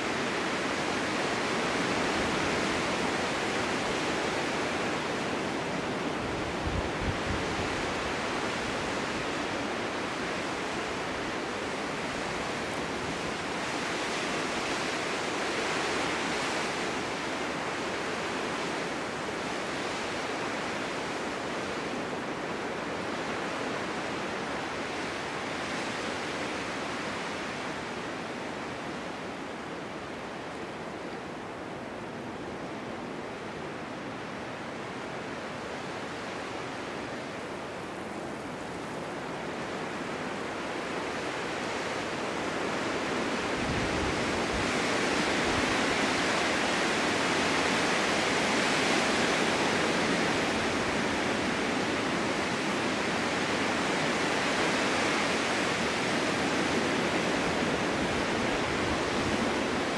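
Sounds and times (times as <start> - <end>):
strong wind blowing: 0.0 - 59.9.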